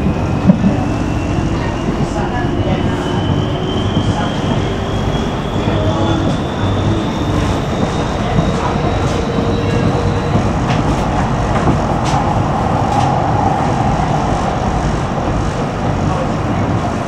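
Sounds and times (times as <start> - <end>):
tram wheels rumbling on rail: 0.0 - 17.0.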